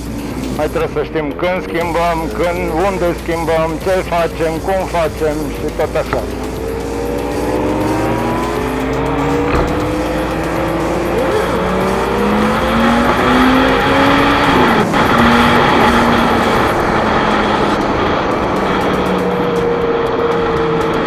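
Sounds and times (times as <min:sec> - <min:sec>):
motorcycle engine accelerating: 0:02.2 - 0:21.0.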